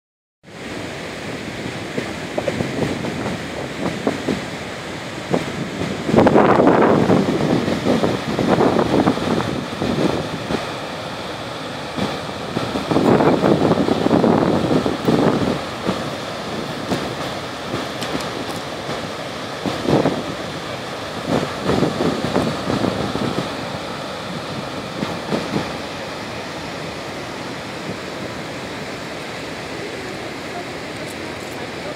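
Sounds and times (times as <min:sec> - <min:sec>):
waterfall rushing: 0:00.5 - 0:31.9
wind gusting on microphone: 0:01.8 - 0:31.9.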